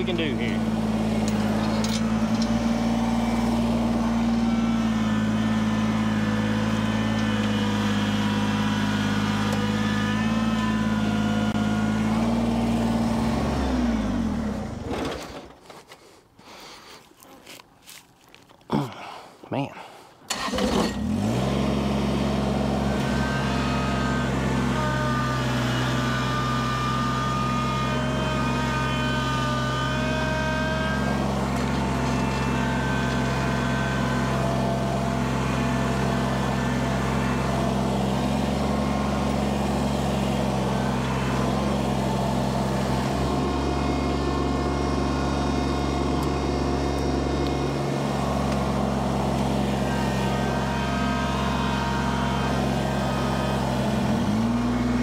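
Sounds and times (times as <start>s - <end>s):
engine whine: 0.0s - 15.6s, 20.3s - 55.0s
tractor diesel engine under load: 0.0s - 55.0s.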